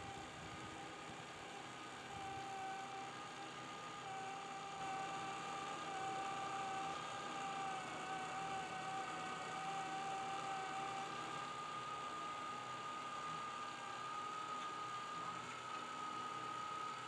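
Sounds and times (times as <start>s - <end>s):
antenna rotator motor whining: 0.0s - 17.0s.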